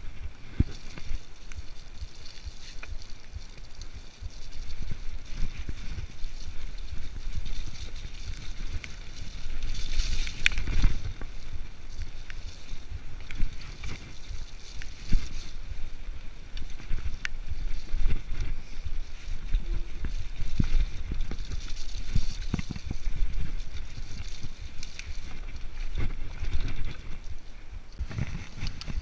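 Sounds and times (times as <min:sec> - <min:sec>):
bike rattling: 0:00.0 - 0:29.0
wind buffeting microphone: 0:00.0 - 0:29.0.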